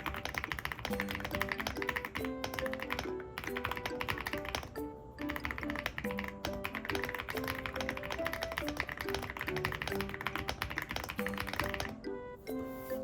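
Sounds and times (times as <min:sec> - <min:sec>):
mechanical keyboard typing: 0:00.0 - 0:12.0
light melodic background music: 0:00.0 - 0:13.0.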